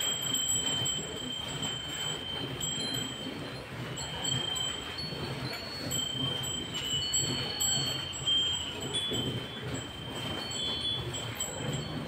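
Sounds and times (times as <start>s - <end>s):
high ringing tones: 0.0s - 12.0s.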